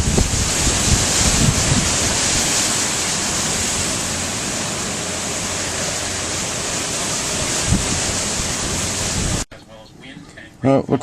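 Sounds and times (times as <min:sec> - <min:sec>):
strong wind hissing: 0:00.0 - 0:09.5
wind buffeting microphone: 0:00.0 - 0:09.5.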